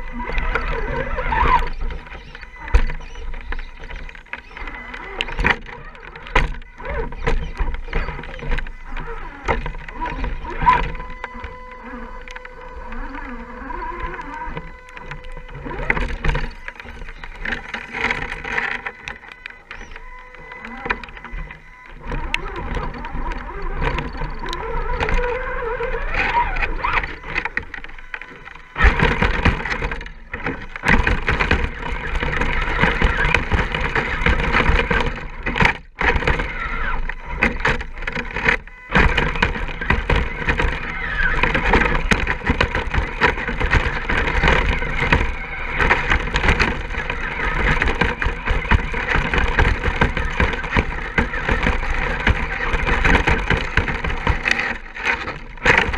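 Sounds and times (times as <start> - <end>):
electric motor and gears whining: 0.0 - 55.9
tyres scrabbling over rock: 0.0 - 55.9.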